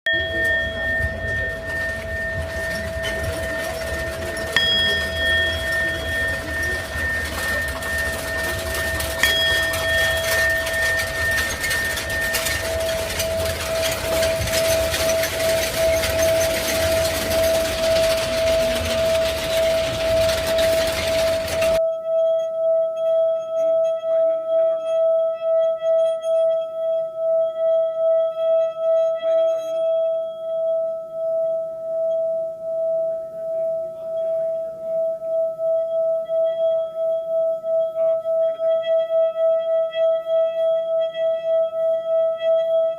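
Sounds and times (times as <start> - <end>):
singing bowl ringing tone: 0.1 - 42.9.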